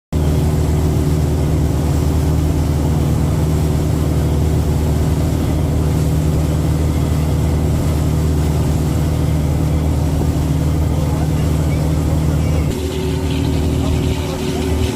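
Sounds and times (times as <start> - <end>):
wind: 0.1 - 14.9
boat engine droning: 0.2 - 14.9
water rushing: 0.2 - 14.9.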